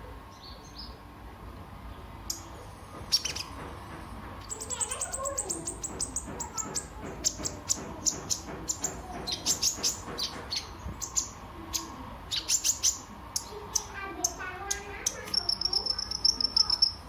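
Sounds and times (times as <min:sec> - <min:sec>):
bird chirping: 0:01.9 - 0:03.6, 0:04.4 - 0:17.0.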